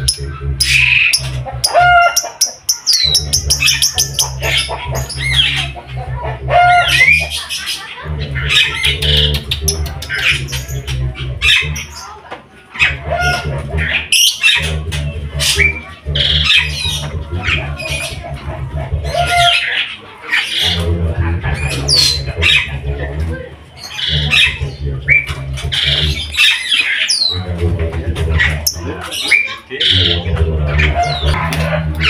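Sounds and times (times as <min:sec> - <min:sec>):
songbirds singing and chirping: 0:00.0 - 0:32.0.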